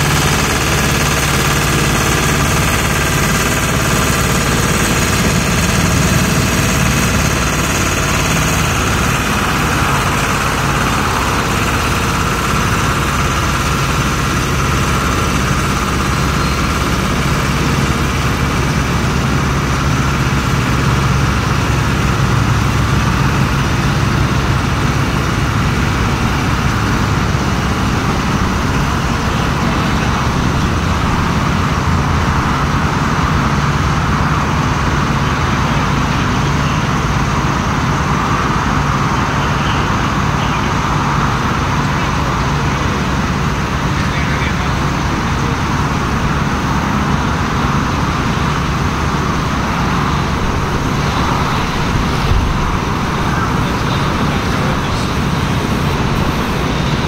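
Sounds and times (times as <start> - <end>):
truck diesel engines running: 0.0 - 57.0.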